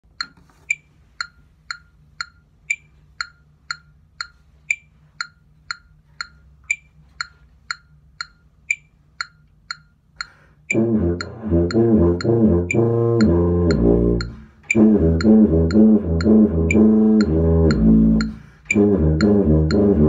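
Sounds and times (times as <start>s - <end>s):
metronome clicking: 0.1s - 20.0s.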